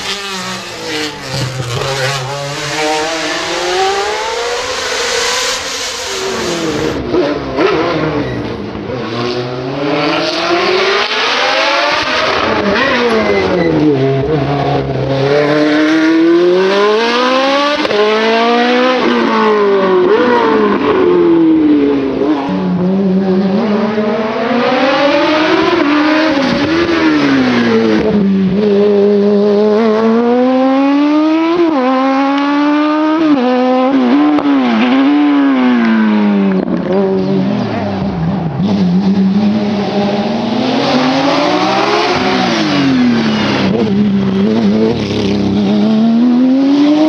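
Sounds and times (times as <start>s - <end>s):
racing car engine at high revs: 0.0s - 47.0s.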